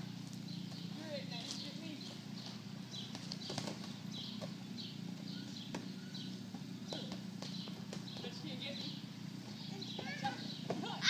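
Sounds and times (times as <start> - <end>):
trampoline springs squeaking: 0.0 - 11.0.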